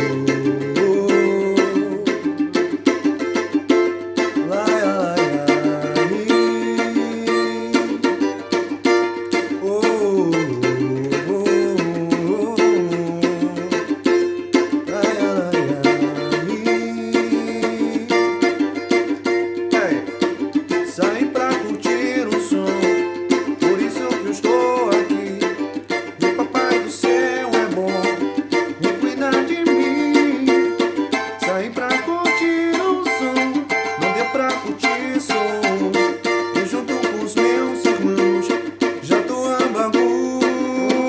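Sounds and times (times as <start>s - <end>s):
strummed small string instrument: 0.0s - 41.0s.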